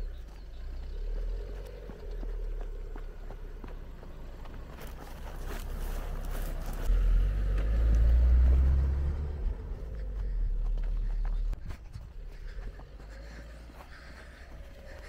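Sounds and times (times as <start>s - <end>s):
car driving past on dirt track: 0.0s - 15.0s.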